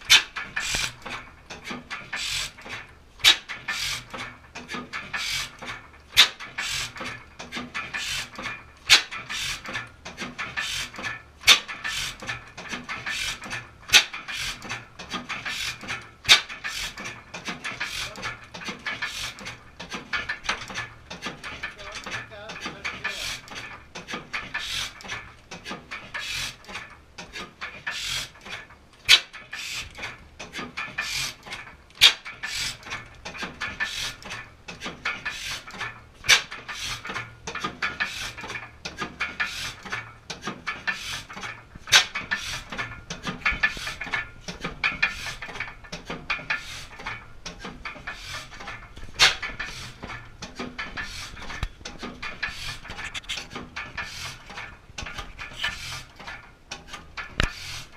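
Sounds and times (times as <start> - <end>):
gas engine clattering: 0.0 - 57.9
sharp engine cracks: 0.0 - 57.9.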